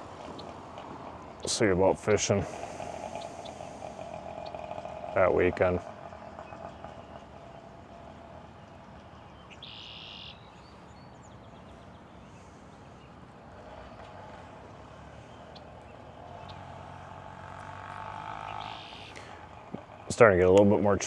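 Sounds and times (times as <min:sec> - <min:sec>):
high buzzing call: 0:00.0 - 0:10.9, 0:12.3 - 0:20.1
vehicle approaching: 0:00.0 - 0:21.0.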